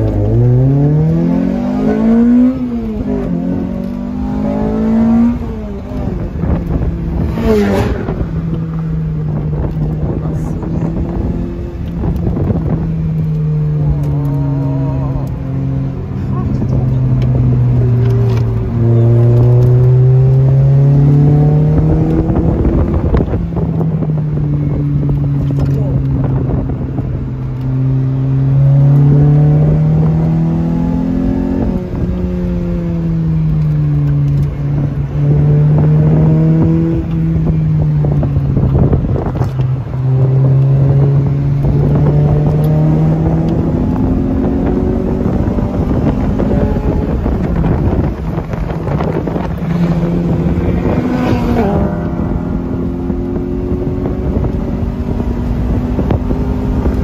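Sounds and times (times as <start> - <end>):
sports car engine revving: 0.0 - 57.0
wind and road noise: 0.0 - 57.0.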